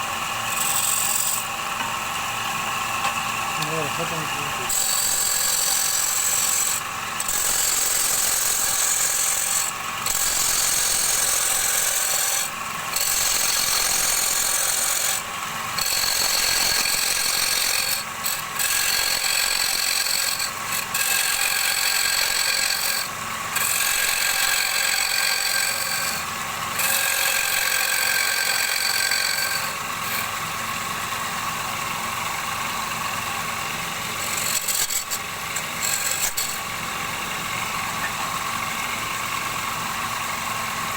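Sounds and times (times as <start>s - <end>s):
lathe tool cutting wood: 0.0s - 40.8s.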